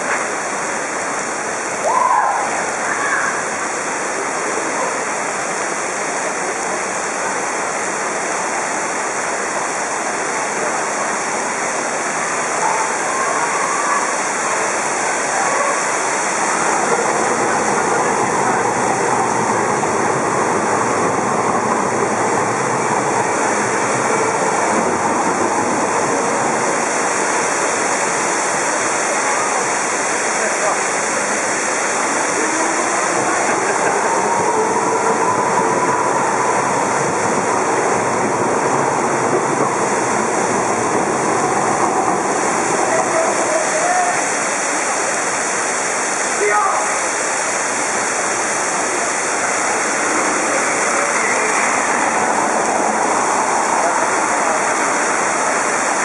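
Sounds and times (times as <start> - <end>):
heavy rain on roof and paving: 0.0 - 56.0.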